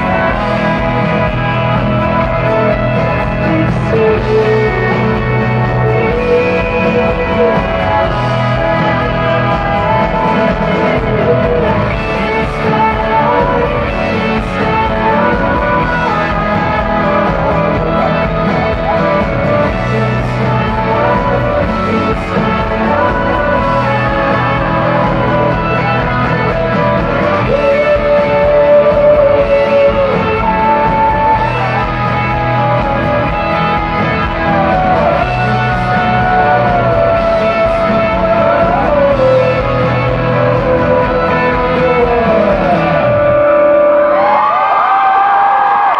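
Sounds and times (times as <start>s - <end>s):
instrumental backing music: 0.0s - 45.9s
man singing long notes: 0.0s - 45.9s.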